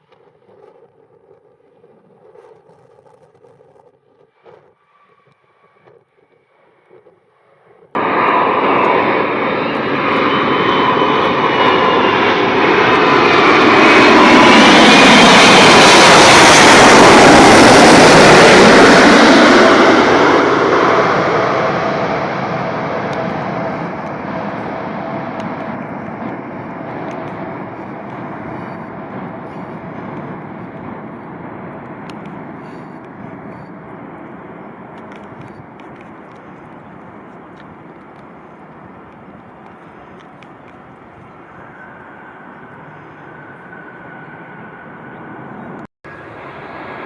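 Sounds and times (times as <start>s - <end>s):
jet aircraft passing: 0.0s - 47.0s.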